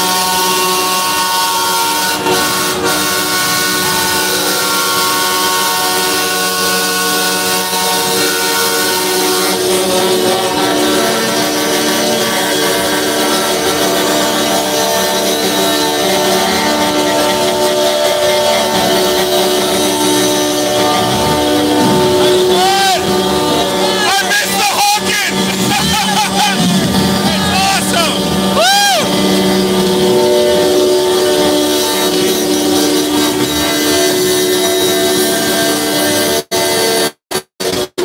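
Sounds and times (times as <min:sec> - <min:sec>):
truck air horns blaring: 0:00.0 - 0:37.9.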